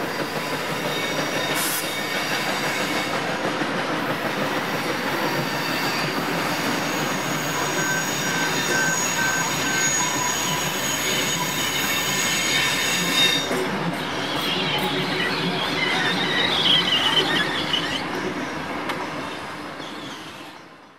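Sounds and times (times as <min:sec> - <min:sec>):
high wheel squeal: 0:00.0 - 0:03.2, 0:04.3 - 0:20.7
train wheels rumbling on rails: 0:00.0 - 0:20.9.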